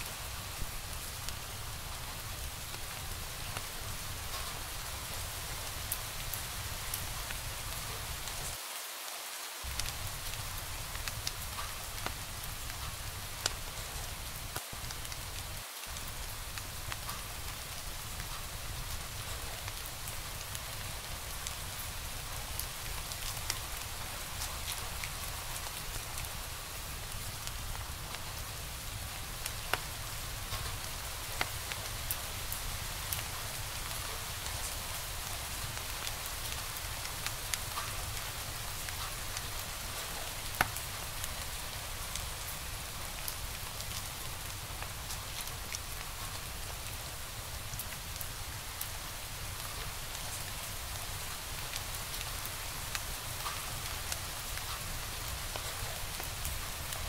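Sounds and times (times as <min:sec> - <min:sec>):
log fire crackling: 0:00.0 - 0:08.6, 0:09.6 - 0:57.0.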